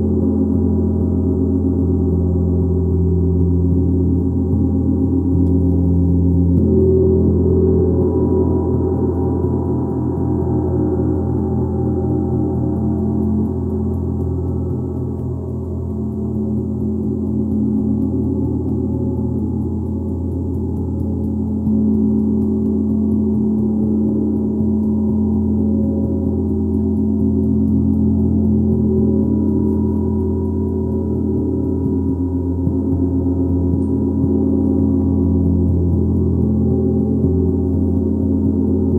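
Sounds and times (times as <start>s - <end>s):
gong resonating: 0.0s - 38.9s.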